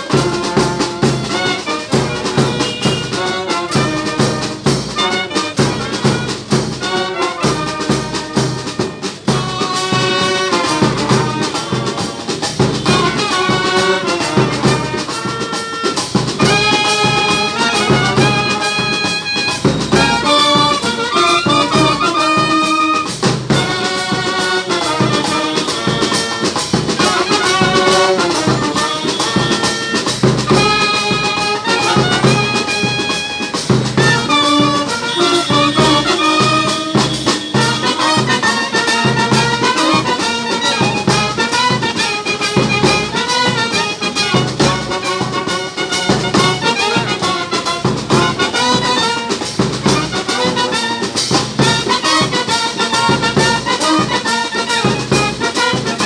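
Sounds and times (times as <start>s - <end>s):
bass drum and snare drum beat: 0.0s - 56.0s
brass band playing: 0.0s - 56.0s.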